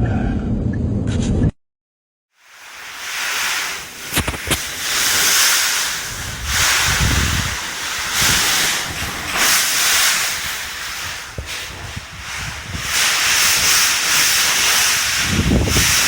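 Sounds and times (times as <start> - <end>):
strong wind gusting: 2.9 - 16.0.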